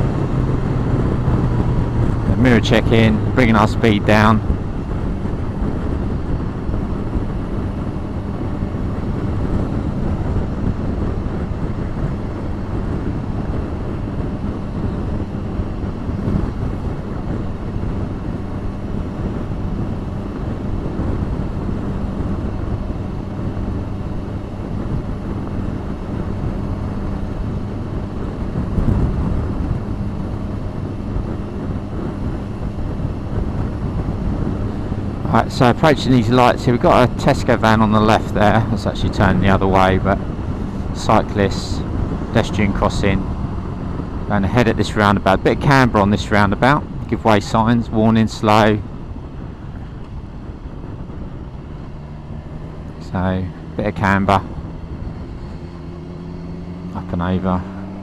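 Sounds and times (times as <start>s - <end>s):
motorcycle engine humming: 0.0s - 58.0s
wind rushing over microphone: 0.0s - 58.0s.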